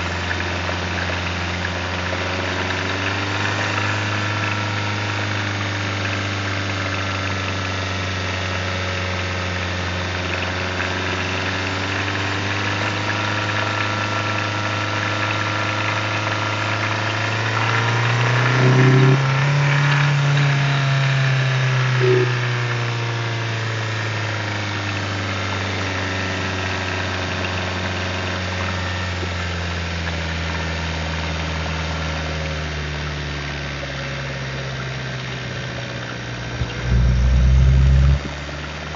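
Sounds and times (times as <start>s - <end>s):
car engine running: 0.0s - 38.9s
engine rattle: 0.0s - 38.9s.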